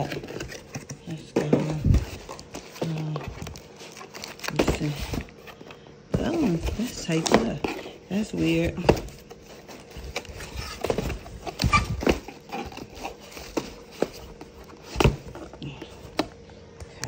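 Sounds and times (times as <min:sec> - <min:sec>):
paper packaging rustling: 0:00.0 - 0:16.3.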